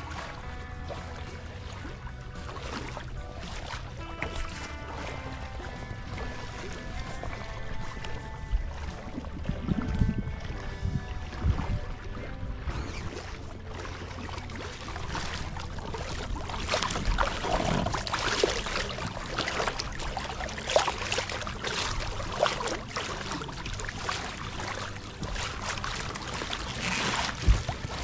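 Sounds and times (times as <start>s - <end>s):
steady low rumble: 0.0s - 28.0s
water lapping against boat hull: 0.0s - 28.0s.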